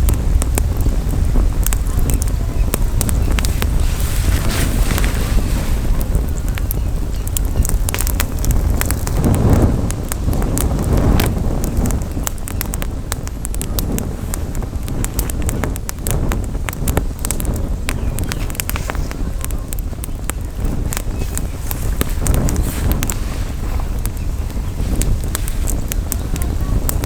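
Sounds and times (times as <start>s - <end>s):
campfire crackling and popping: 0.0s - 27.0s
wind rumbling on microphone: 0.0s - 27.0s.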